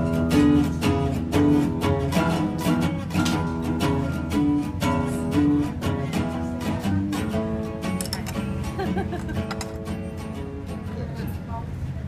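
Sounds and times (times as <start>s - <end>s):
plucked string melody: 0.0s - 11.6s.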